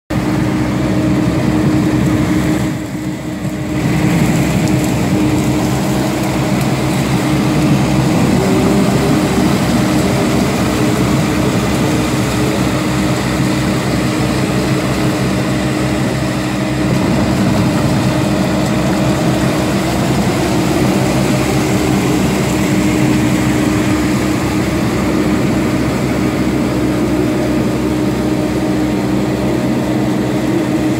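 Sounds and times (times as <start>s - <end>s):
reed-cutting machine engine running: 0.1s - 30.9s.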